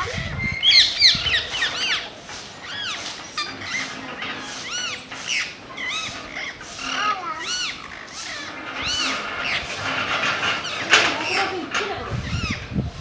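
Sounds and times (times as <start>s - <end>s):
parakeets squawking: 0.0s - 12.7s.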